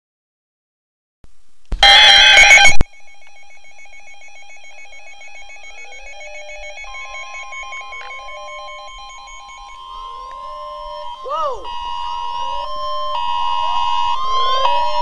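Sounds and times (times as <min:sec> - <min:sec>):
steady single tone: 0:01.8 - 0:14.2
harsh burst of electronic tones: 0:01.8 - 0:14.5
two-pitch electronic alarm beeps: 0:01.8 - 0:15.0.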